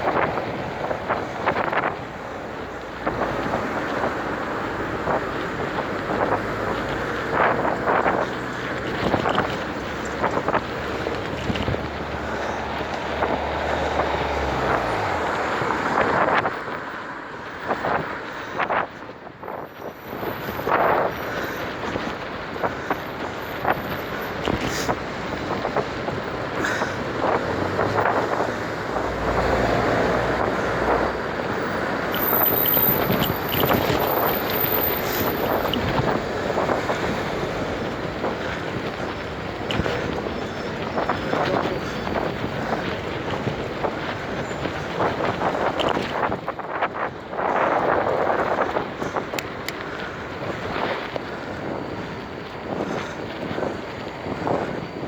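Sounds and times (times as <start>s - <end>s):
road noise: 0.0s - 55.0s
wind rushing over microphone: 0.0s - 55.0s.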